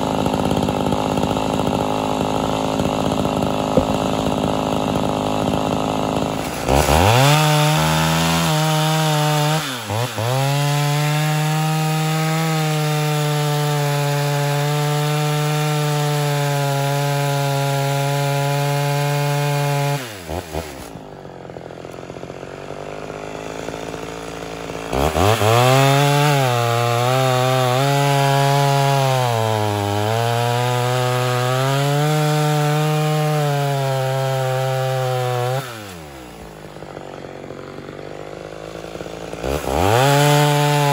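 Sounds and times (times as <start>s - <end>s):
chainsaw cutting a log: 0.0s - 40.9s.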